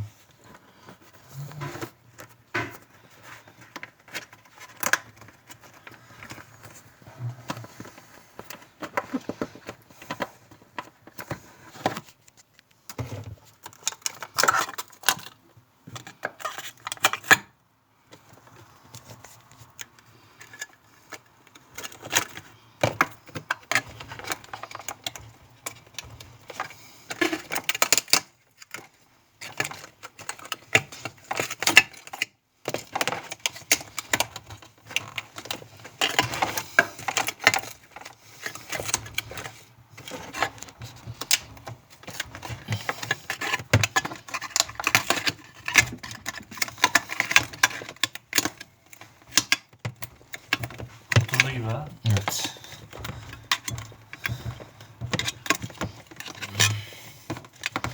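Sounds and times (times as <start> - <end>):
small hard parts clicking and rattling: 0.5 - 17.5, 18.1 - 57.9.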